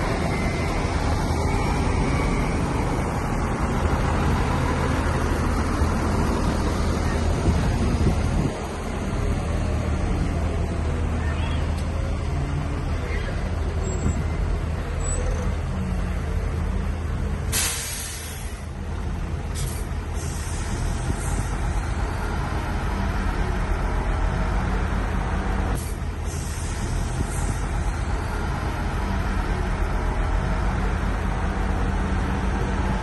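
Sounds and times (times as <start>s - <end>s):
diesel machinery rumbling: 0.0s - 33.0s.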